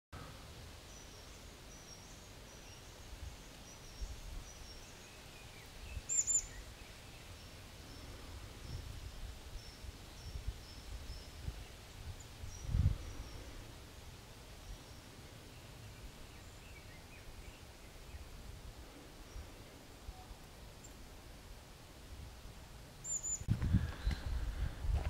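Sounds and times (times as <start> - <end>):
small songbirds calling: 0.8 - 21.1, 23.0 - 24.8.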